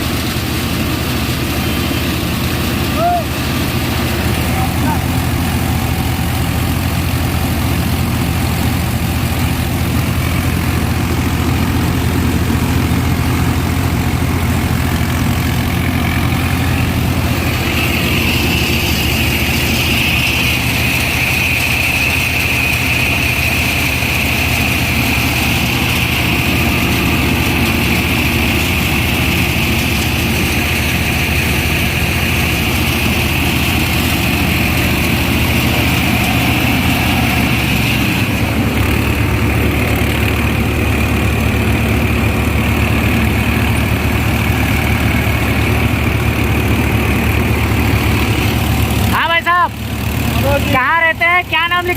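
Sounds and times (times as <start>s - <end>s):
diesel tractor engine: 0.0s - 51.9s
high machinery whine: 0.0s - 51.9s.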